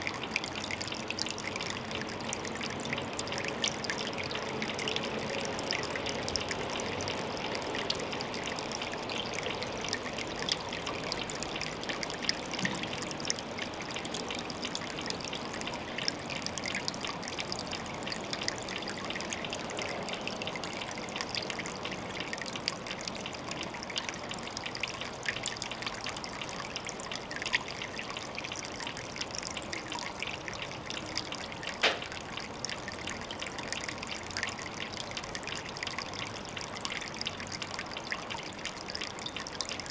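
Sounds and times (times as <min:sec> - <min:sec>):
water trickling at a pond: 0:00.0 - 0:39.9.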